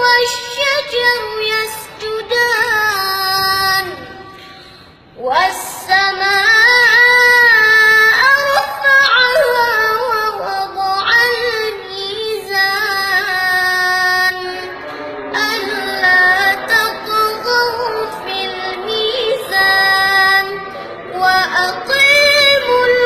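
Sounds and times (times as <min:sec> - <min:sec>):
boy reciting melodically: 0:00.0 - 0:23.0.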